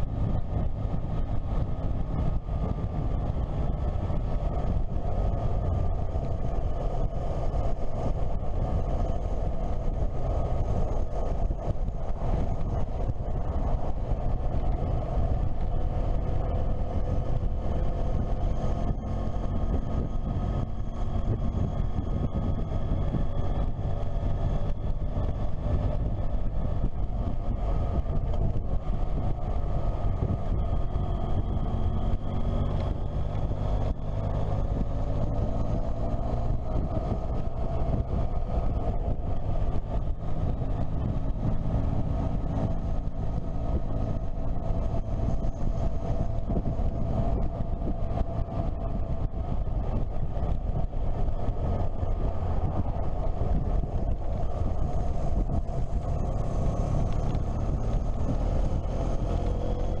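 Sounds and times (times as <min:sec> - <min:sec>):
motorcycle engine running: 0:00.0 - 1:00.0
wind rumble on microphone: 0:00.0 - 1:00.0.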